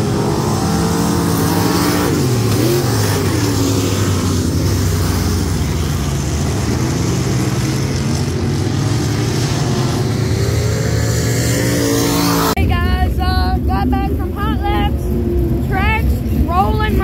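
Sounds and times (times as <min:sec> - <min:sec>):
race car engines running: 0:00.0 - 0:17.0.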